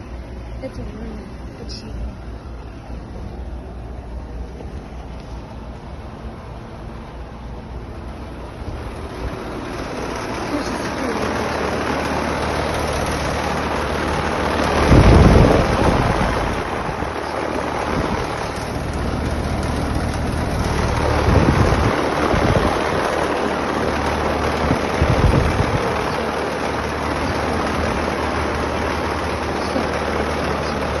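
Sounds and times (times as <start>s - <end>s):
air conditioner fan rushing: 0.0s - 31.0s
low hum: 0.0s - 31.0s.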